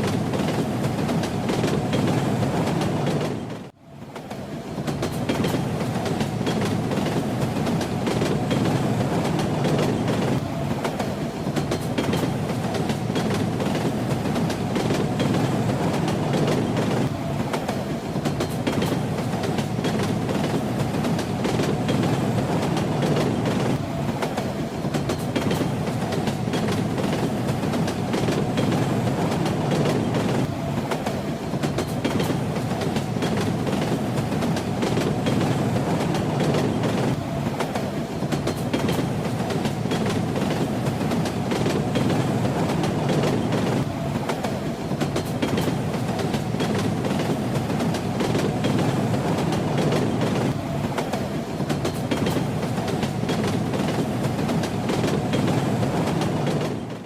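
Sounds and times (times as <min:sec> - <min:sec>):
train rumbling on rails: 0:00.0 - 0:57.0
wheels clickety-clack over track: 0:00.0 - 0:57.0.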